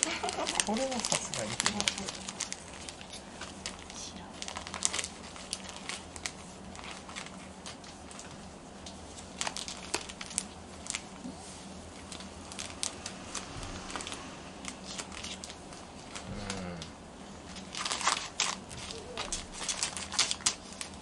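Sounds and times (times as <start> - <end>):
fabric rustling and crinkling: 0.0 - 16.2, 17.4 - 21.0.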